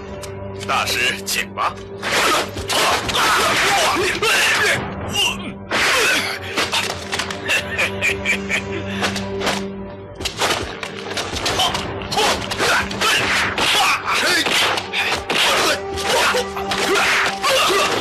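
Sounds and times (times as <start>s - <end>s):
dramatic background music: 0.0s - 18.0s.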